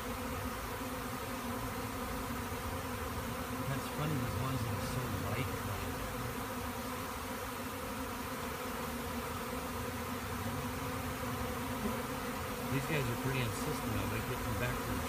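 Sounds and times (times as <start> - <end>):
bee swarm buzzing: 0.0 - 15.0.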